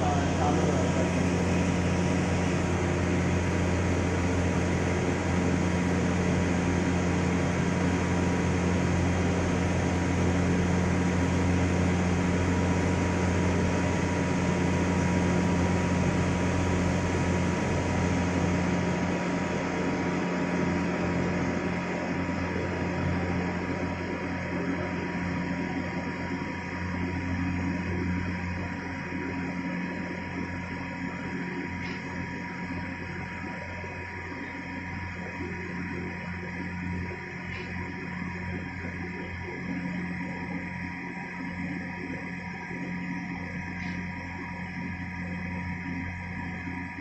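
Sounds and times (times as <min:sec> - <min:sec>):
machine shop equipment humming: 0:00.0 - 0:47.0
thin constant whine: 0:00.0 - 0:47.0.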